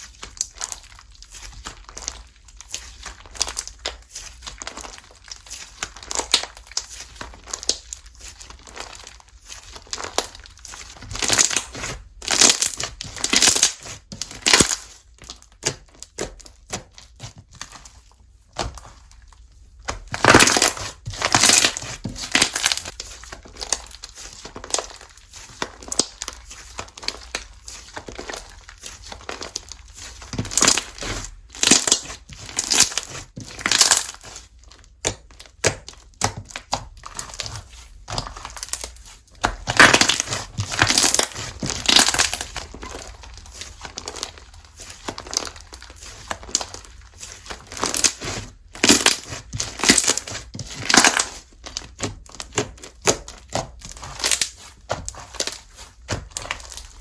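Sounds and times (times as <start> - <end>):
slime crackling and popping: 0.0 - 57.0.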